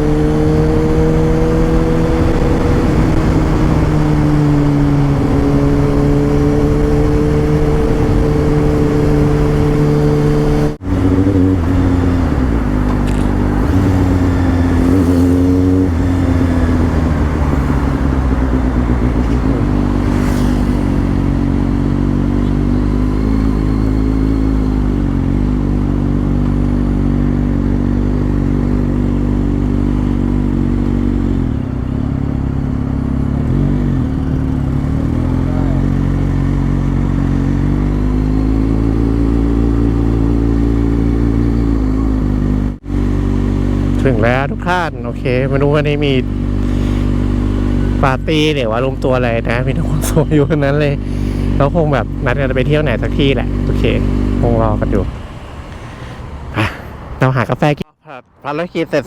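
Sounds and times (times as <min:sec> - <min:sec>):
motorcycle engine running: 0:00.0 - 0:56.8.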